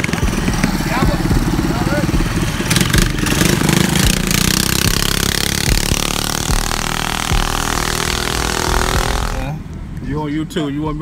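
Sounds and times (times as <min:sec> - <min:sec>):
small engine revving: 0:00.0 - 0:09.6.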